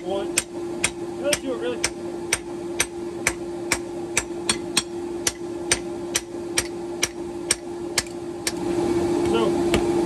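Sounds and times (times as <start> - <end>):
hammer striking metal on anvil: 0.0 - 8.6.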